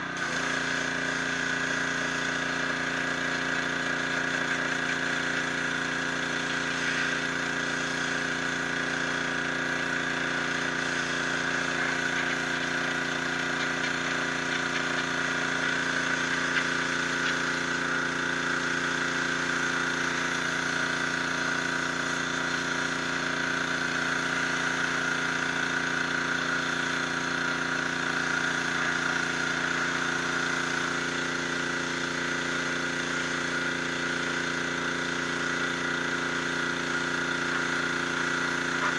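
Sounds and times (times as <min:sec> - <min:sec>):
pressure washer machine drone: 0:00.0 - 0:38.9
water jet hissing on stone: 0:00.0 - 0:38.9.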